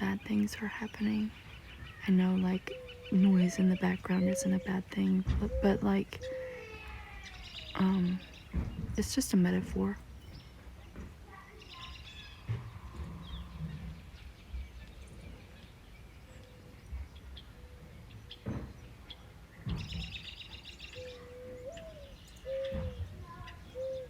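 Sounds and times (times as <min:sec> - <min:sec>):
low background noise: 0:00.0 - 0:24.0
small songbirds chirping: 0:00.0 - 0:24.0.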